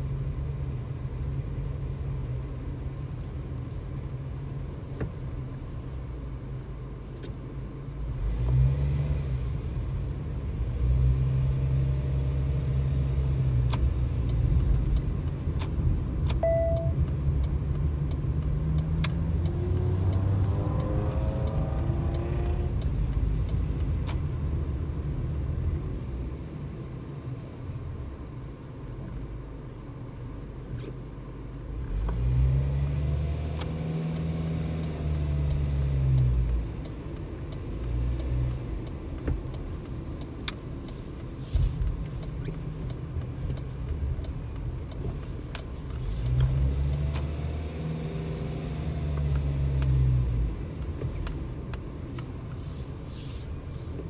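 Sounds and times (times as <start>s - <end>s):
car engine accelerating and slowing: 0.0s - 54.0s
road noise inside car cabin: 0.0s - 54.0s.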